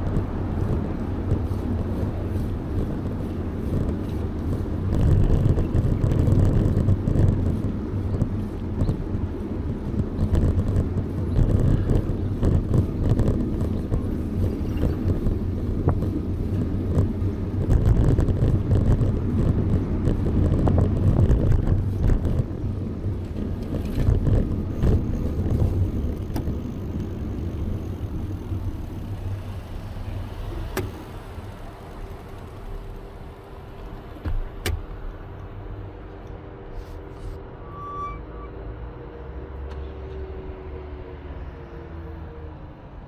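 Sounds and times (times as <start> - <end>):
wind and road noise rumble: 0.0 - 43.0.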